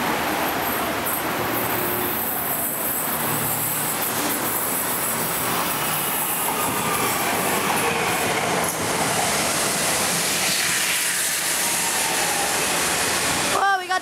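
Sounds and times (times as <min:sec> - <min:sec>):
train wheels rushing on rails: 0:00.0 - 0:14.0.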